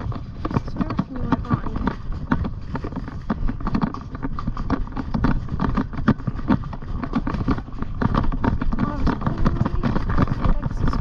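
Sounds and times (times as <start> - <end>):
pony hooves thudding: 0.0 - 11.0
steady low rumble: 0.0 - 11.0.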